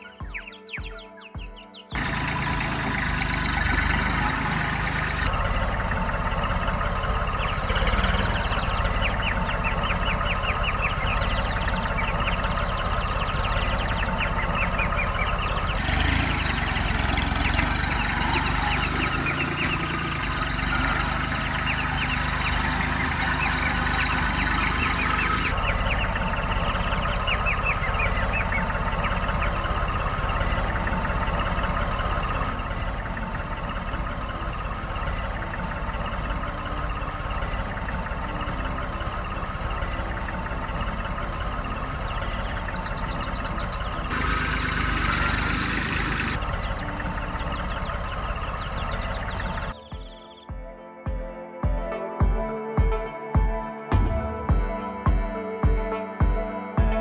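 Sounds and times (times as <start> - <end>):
small engine running: 1.9 - 49.7.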